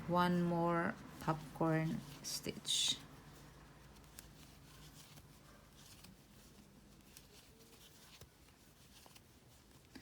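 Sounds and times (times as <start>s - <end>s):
yarn rustling: 0.0s - 10.0s.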